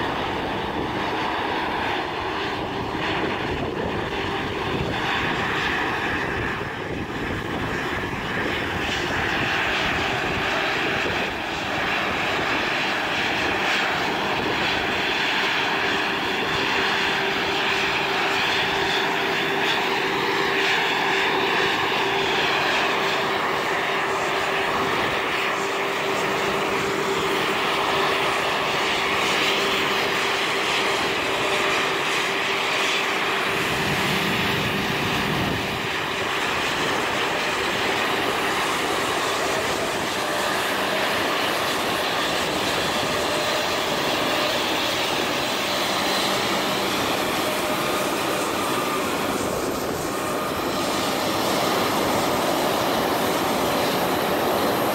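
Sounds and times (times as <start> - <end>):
jet engines whining at taxi power: 0.0 - 54.9.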